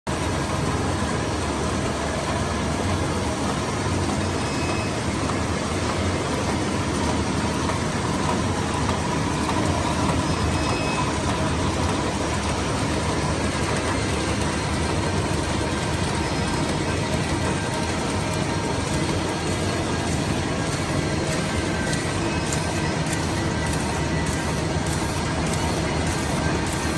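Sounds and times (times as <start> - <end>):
packing machine whirring: 0.1 - 26.9
faint machine whine: 0.2 - 26.9.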